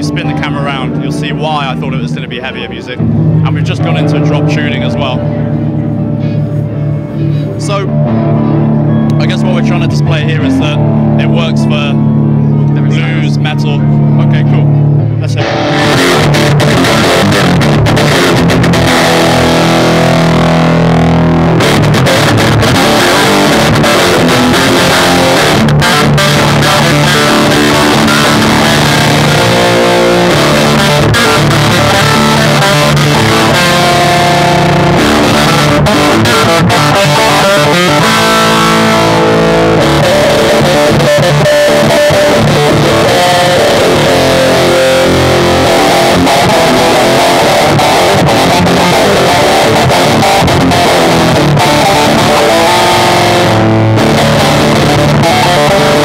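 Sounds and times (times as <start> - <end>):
heavy electric guitar riffs: 0.0 - 56.0.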